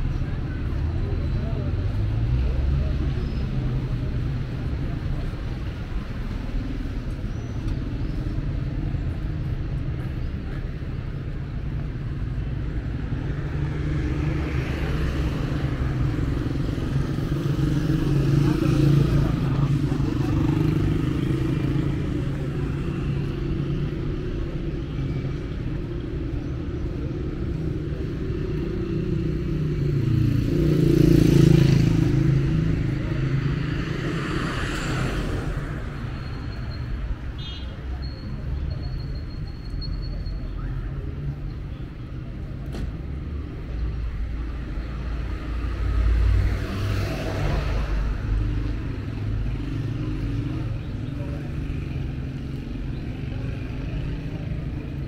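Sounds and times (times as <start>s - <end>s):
motorcycles passing: 0.0s - 38.9s, 40.1s - 55.0s
cars passing: 0.0s - 55.0s.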